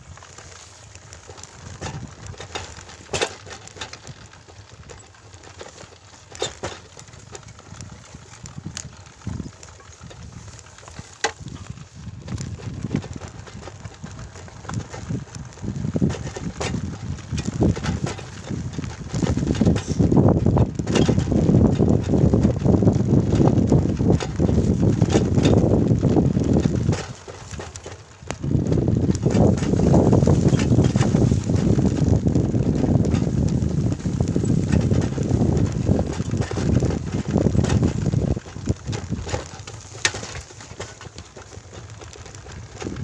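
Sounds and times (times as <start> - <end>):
motorcycle rumbling: 0.0 - 43.0
wind buffeting microphone: 0.0 - 43.0
knocks and rattles: 0.6 - 43.0.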